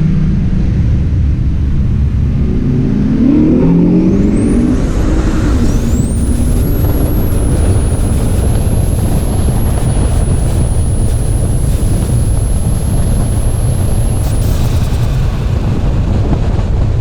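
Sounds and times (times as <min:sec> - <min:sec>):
car low rumble: 0:00.0 - 0:17.0
thin high whine: 0:00.8 - 0:17.0.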